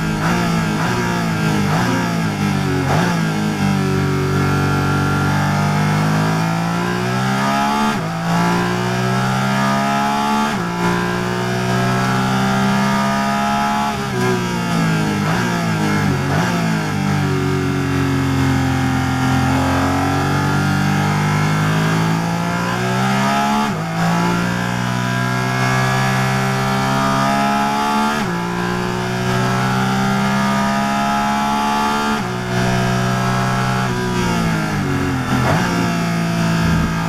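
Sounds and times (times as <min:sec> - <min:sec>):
race car engine at full throttle: 0:00.0 - 0:37.0.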